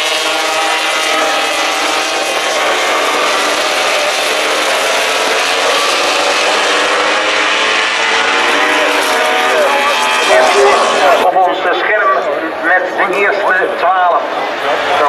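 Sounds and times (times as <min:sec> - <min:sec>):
racing motorcycles passing at speed: 0:00.0 - 0:13.5.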